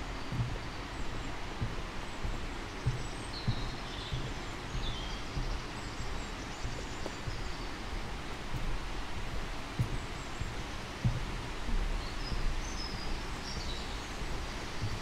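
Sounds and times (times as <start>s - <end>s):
outdoor background hiss: 0.0s - 15.0s
small birds chirping: 0.0s - 15.0s
footsteps on road surface: 0.3s - 15.0s.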